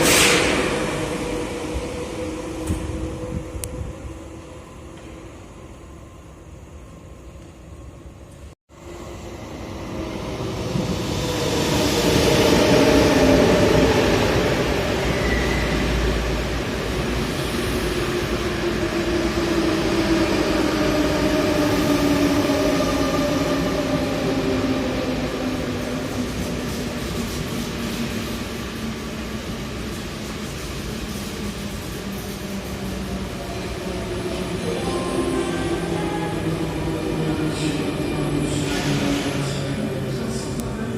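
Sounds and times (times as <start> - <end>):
electric train rumbling past: 0.0 - 40.9.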